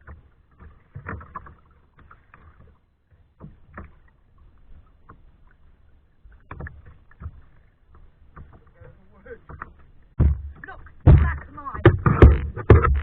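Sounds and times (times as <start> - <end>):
kayak paddle splashing water: 0.0 - 13.0.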